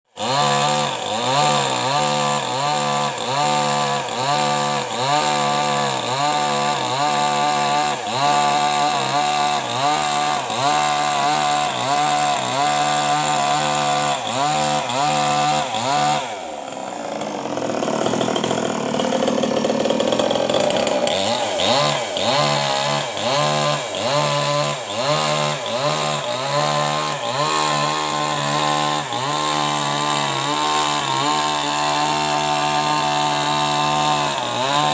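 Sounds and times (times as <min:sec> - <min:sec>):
chainsaw cutting through log: 0:00.0 - 0:34.9.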